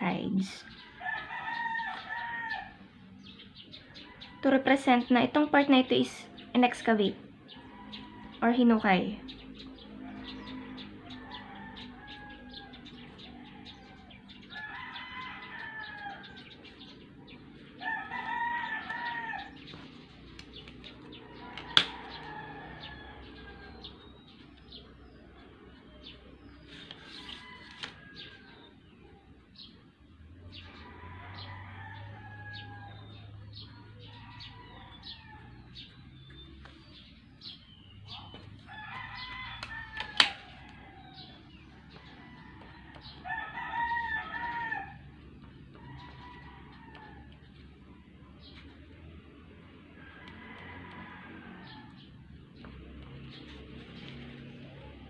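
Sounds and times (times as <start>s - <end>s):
roosters crowing: 0.6s - 5.0s, 7.3s - 9.0s, 9.6s - 55.0s.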